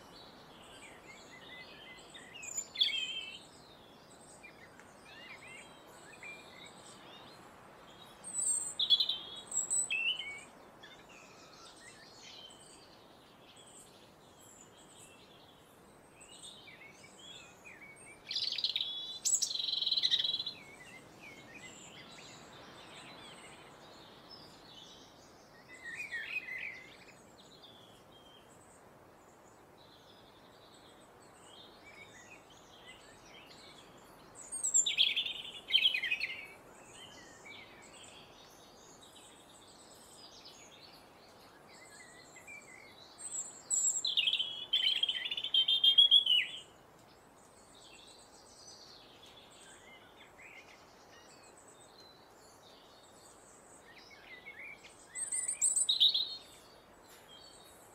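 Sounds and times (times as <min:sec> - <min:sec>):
robin singing: 0:00.0 - 0:28.8, 0:29.4 - 0:57.9
background hiss: 0:00.0 - 0:57.9.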